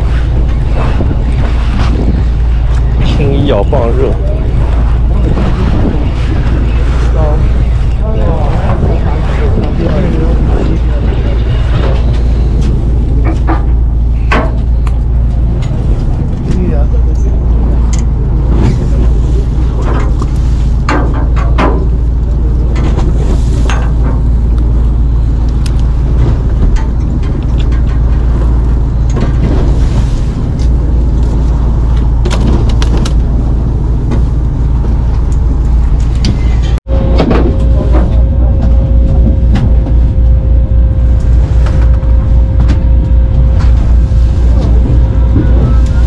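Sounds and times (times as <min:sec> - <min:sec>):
boat engine droning: 0:00.0 - 0:46.0.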